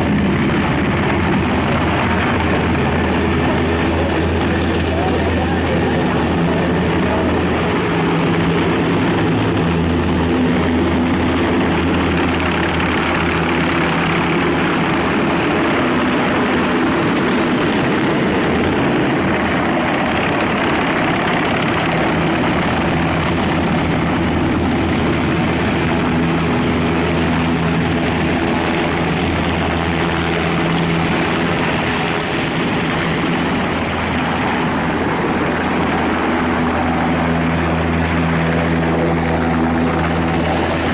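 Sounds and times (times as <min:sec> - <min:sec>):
helicopter rotor and turbine: 0:00.0 - 0:40.9
high-pitched turbine whine: 0:00.0 - 0:40.9.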